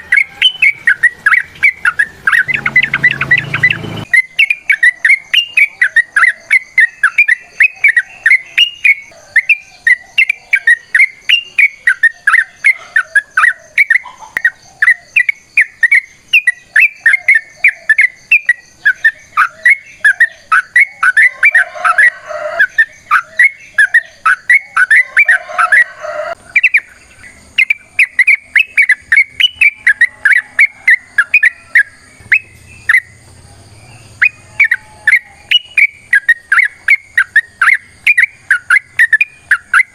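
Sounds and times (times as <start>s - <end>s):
bird singing fast chirps: 0.0s - 39.9s.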